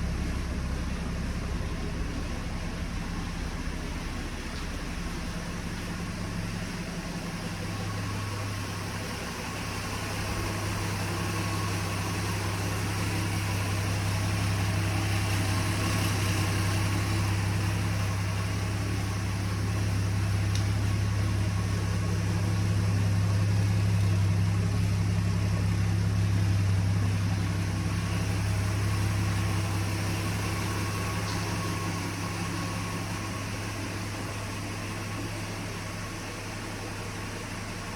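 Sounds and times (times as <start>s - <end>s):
engine idling with low hum: 0.0s - 37.9s.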